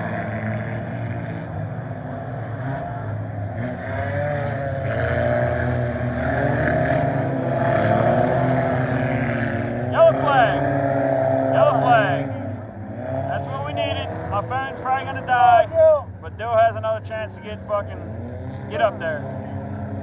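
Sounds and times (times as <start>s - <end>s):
race car engines revving: 0.0s - 20.0s.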